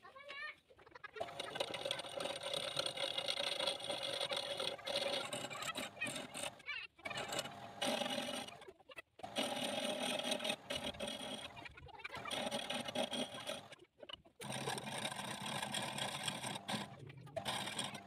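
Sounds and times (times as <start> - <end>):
chisel scraping spinning wood: 1.2 - 13.8, 14.4 - 18.0.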